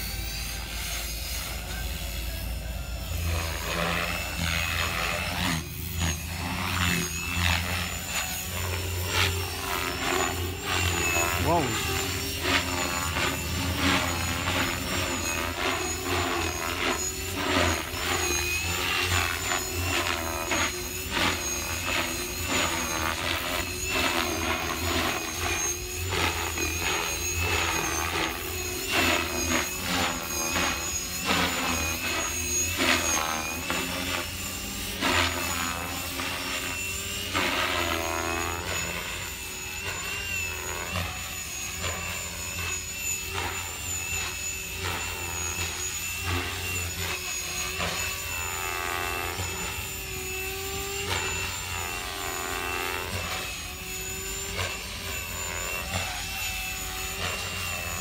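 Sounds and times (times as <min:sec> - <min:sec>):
model helicopter motor whine: 0:00.0 - 0:58.0
rotor blades swishing: 0:00.0 - 0:58.0.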